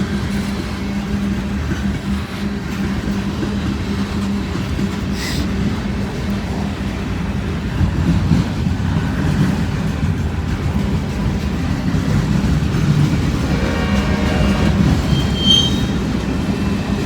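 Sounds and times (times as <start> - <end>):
freight train cars rumbling: 0.0 - 17.0.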